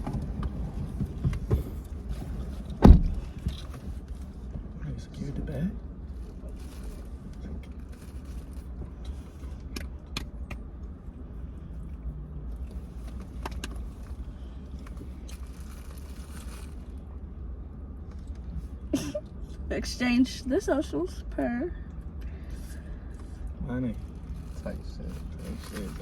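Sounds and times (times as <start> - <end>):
car cabin engine rumble: 0.0 - 26.0.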